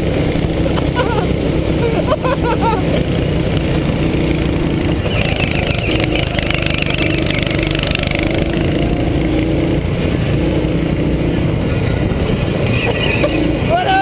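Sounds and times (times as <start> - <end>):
go-kart engine running: 0.0 - 14.0.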